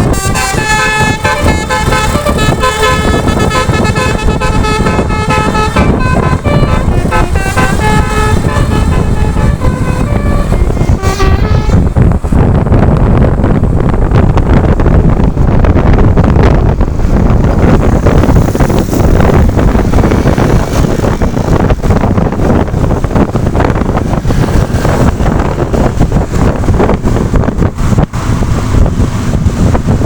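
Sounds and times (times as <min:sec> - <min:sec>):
road vehicle rumble: 0:00.0 - 0:30.0
wind buffeting microphone: 0:00.0 - 0:30.0.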